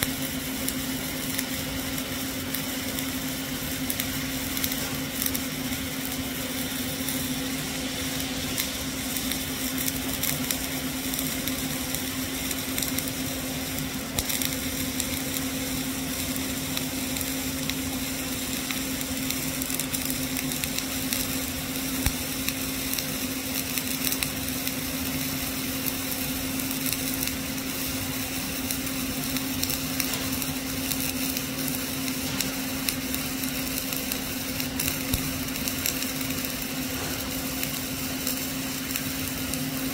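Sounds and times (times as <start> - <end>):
steady low hum: 0.0 - 39.9
welding arc crackling sizzle: 0.0 - 39.9.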